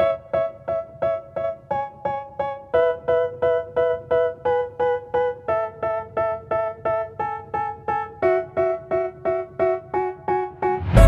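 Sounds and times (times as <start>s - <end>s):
electric piano playing chords: 0.0s - 11.0s.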